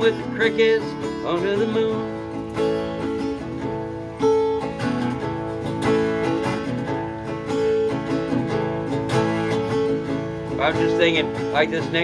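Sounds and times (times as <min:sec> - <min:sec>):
acoustic guitar strumming: 0:00.0 - 0:12.0
person singing country song: 0:00.0 - 0:12.0.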